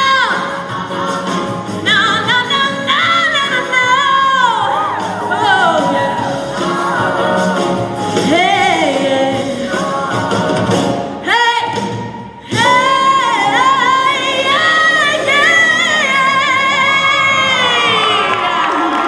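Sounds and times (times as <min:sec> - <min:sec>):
women singing: 0:00.0 - 0:19.0.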